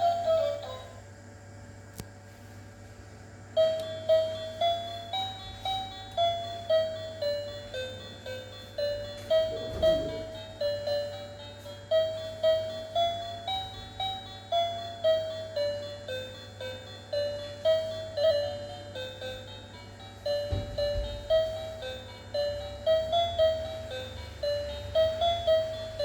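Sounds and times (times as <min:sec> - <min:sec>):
toy beeping melody: 0:00.0 - 0:01.0, 0:03.6 - 0:26.0.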